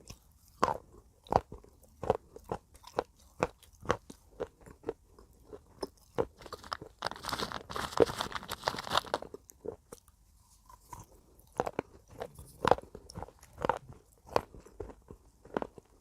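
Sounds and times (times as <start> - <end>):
slate pencil being chewed: 0.0 - 16.0.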